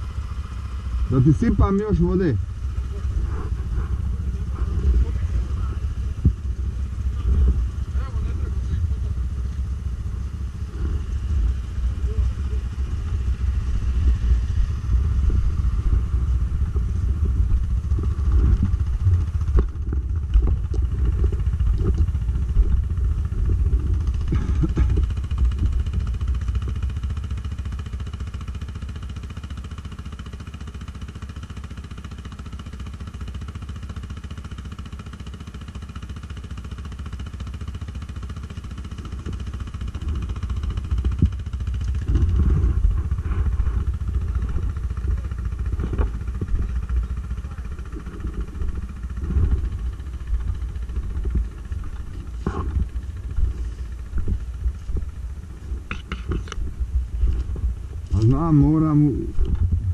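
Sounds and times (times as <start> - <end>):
atv engine running: 0.0 - 59.9
clatter: 1.1 - 59.9.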